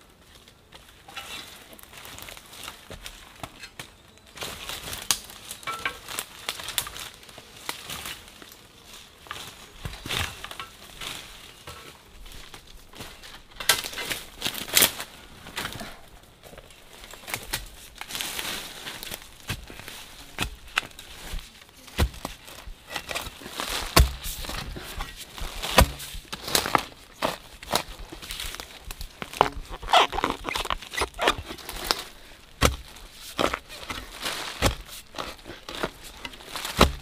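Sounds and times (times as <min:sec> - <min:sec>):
twigs rustling and snapping: 0:01.5 - 0:37.0
footsteps crunching through leaves: 0:04.4 - 0:37.0.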